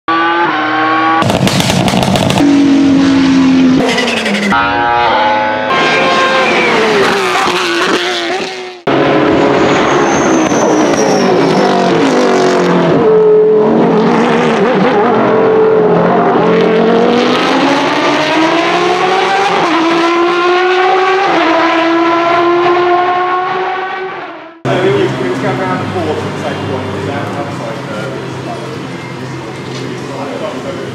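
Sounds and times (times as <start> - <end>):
racing car engine revving: 0.1 - 30.9.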